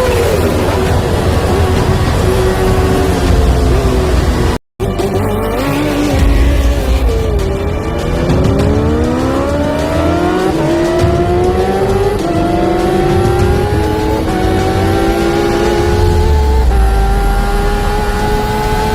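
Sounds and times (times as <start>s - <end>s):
motorcycle engine accelerating hard: 0.0s - 18.9s.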